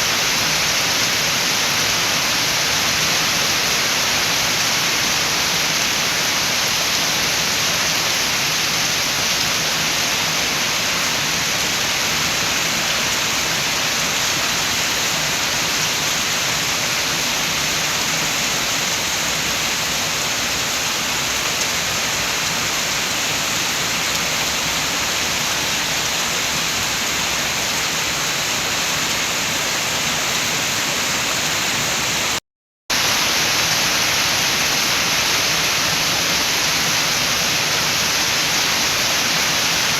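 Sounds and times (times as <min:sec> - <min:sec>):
steady rain: 0:00.0 - 0:39.9
wind: 0:00.0 - 0:39.9.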